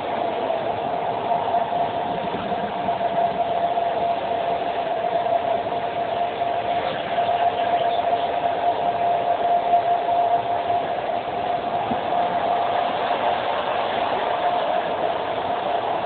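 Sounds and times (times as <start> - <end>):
constant whining tone: 0.0 - 16.0
passenger train running at speed: 0.0 - 16.0.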